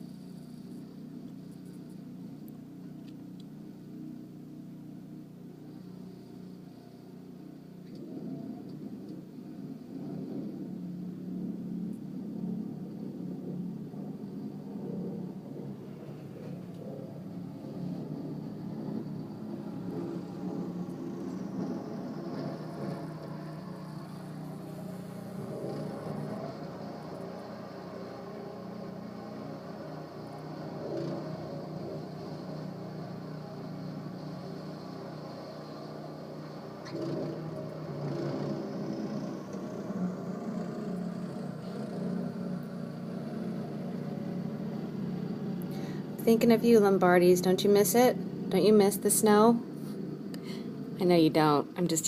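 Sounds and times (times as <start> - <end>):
snowblower engine running: 0.0 - 52.0.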